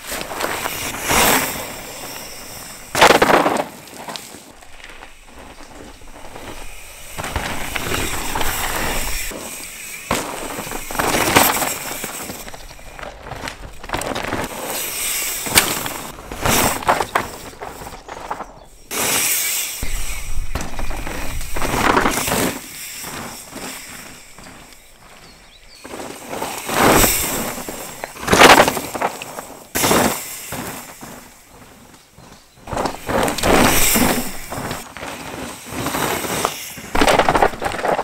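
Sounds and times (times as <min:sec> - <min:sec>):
bikes rattling: 0:00.0 - 0:38.0
tyres crunching and skidding on dirt: 0:00.0 - 0:38.0.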